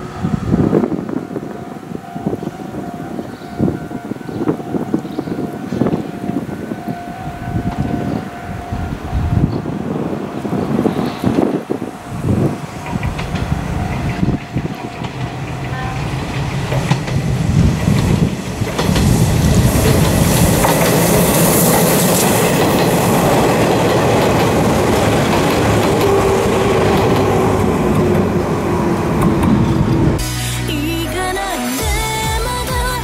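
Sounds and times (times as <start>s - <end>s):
train wheels on rails: 0.0s - 30.2s
steady falling tone: 0.0s - 30.3s.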